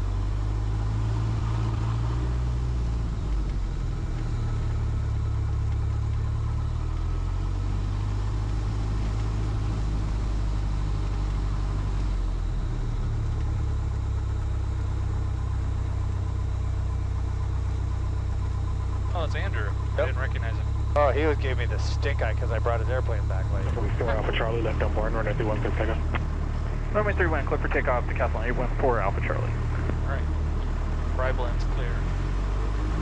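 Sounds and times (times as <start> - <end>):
aircraft engine idling: 0.0 - 33.0.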